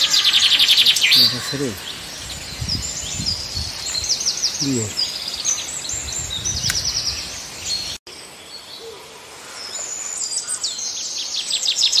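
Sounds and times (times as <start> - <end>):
small birds chirping and trilling: 0.0 - 12.0.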